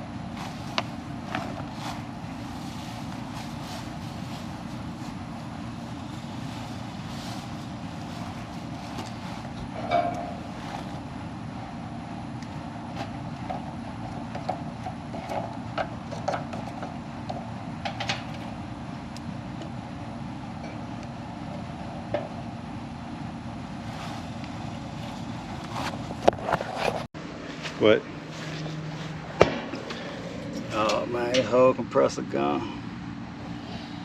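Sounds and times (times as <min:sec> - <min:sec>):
low rumbling background noise: 0:00.0 - 0:34.0.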